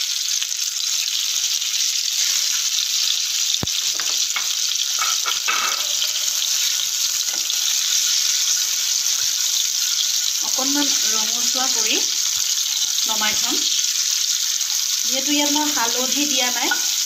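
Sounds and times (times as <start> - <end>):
eggs sizzling in frying pan: 0.0 - 17.0.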